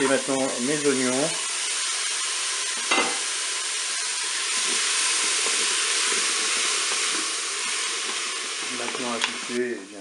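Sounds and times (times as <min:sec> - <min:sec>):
meat and onions sizzling in oil: 0:00.0 - 0:10.0.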